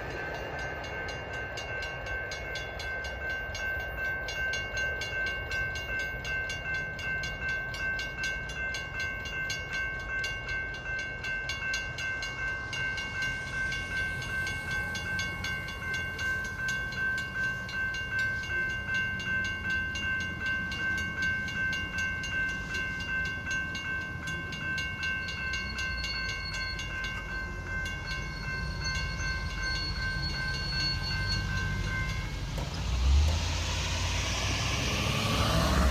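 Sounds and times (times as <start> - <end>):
mechanical crossing bell ringing: 0.0 - 32.4
electronic crossing bell ringing: 0.0 - 32.5
low rail rumble: 0.0 - 35.9.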